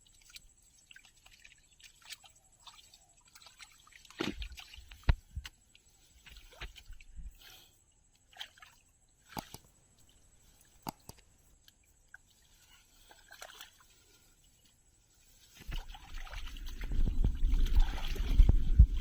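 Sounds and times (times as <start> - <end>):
water splashing by hand: 0.0 - 7.6, 8.3 - 19.0.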